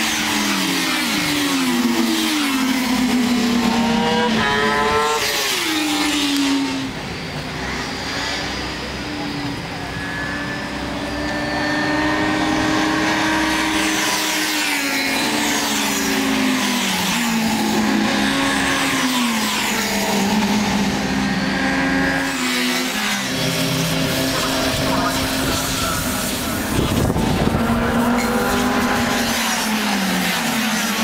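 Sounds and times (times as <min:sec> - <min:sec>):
motorcycle engines running hard: 0:00.0 - 0:31.0.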